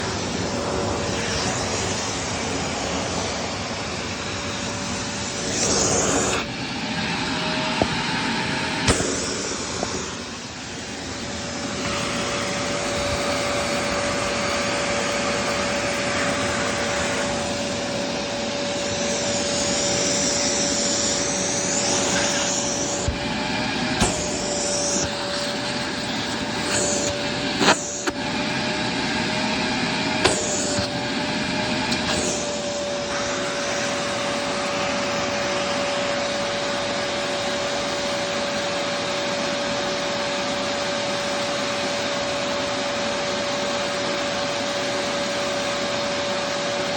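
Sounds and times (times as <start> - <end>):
vacuum cleaner motor whine: 0.0 - 46.9.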